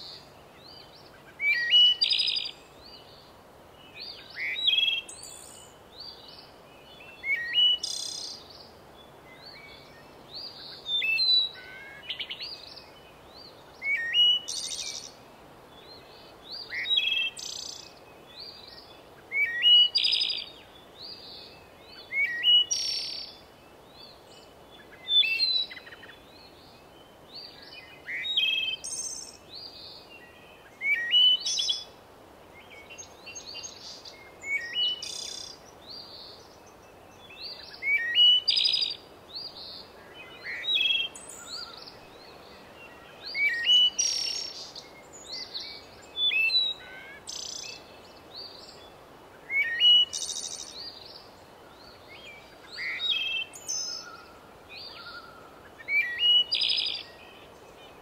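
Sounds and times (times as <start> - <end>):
songbird chirps and trills: 0.0 - 58.0.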